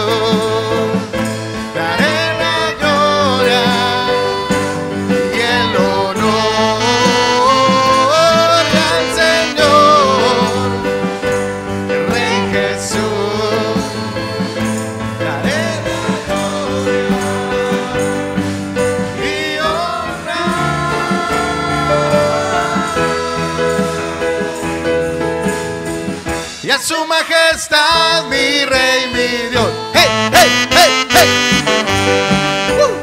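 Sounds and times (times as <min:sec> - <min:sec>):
acoustic guitar chords: 0:00.0 - 0:33.0.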